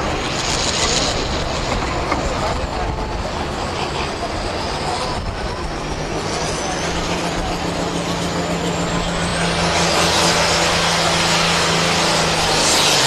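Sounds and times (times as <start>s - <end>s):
tractor diesel engine running hard: 0.0s - 13.0s.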